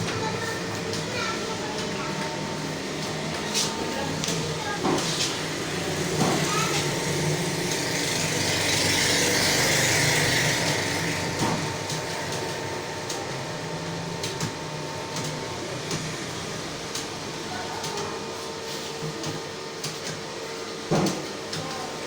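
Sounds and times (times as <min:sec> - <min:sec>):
mechanical room hum: 0:00.0 - 0:22.0.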